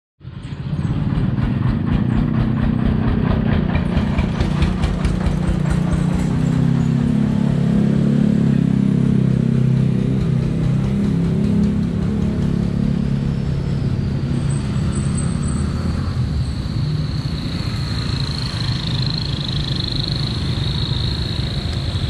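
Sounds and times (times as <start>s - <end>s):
low steady engine drone: 0.2s - 22.0s
motorcycle engines puttering: 0.2s - 22.0s.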